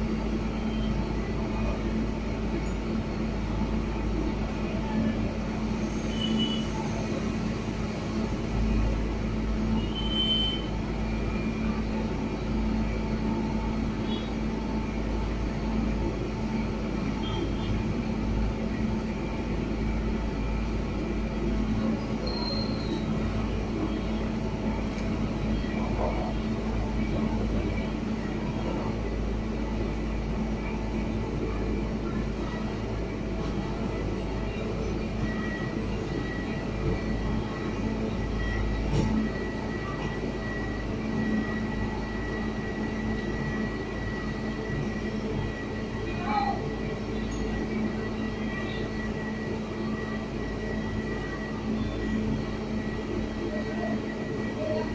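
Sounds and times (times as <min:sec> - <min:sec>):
diesel engine droning: 0:00.0 - 0:54.9.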